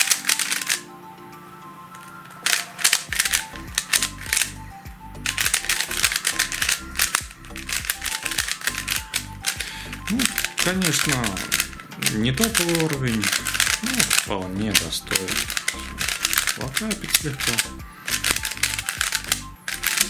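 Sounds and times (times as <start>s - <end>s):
plastic puzzle cube clicking: 0.0s - 0.9s, 2.0s - 4.6s, 5.2s - 20.0s
background music: 0.0s - 20.0s.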